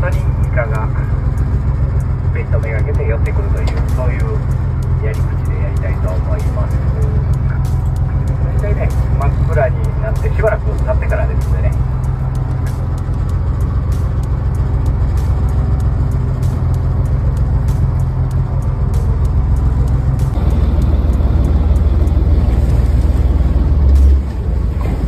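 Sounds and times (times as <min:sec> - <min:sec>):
boat engine humming: 0:00.0 - 0:25.0
deep rough engine rumble: 0:00.0 - 0:25.0.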